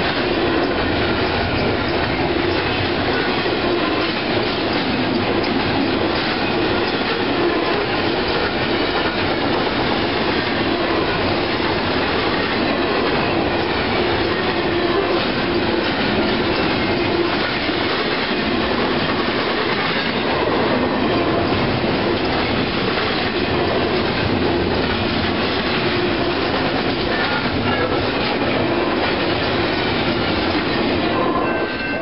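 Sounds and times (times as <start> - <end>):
freight train wheels on rails: 0.0 - 32.0.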